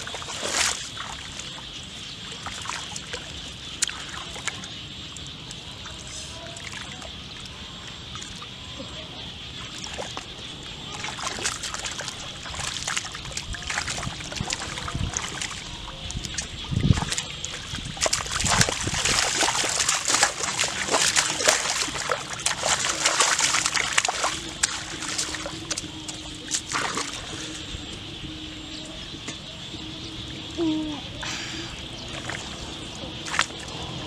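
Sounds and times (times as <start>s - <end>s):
splashing in muddy water: 0.0s - 28.1s, 30.6s - 34.0s.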